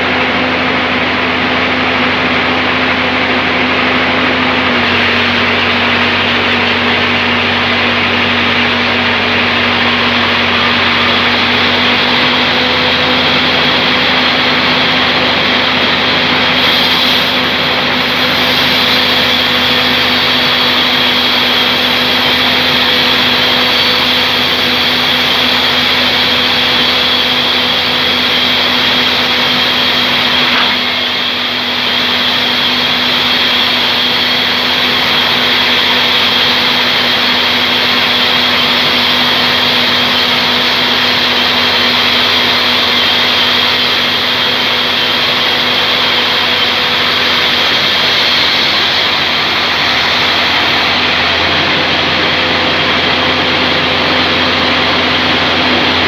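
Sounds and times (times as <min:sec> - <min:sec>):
band saw droning: 0:00.0 - 0:56.0.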